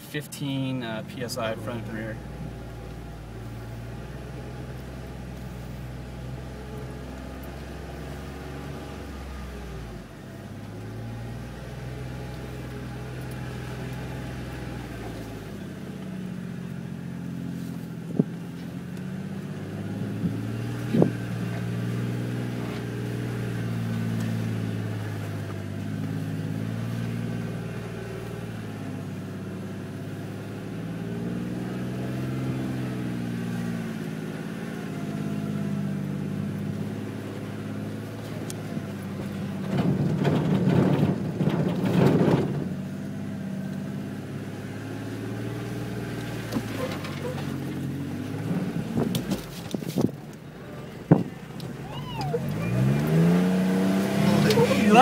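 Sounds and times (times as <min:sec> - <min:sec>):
car engine pulling at low revs: 0:00.0 - 0:55.0.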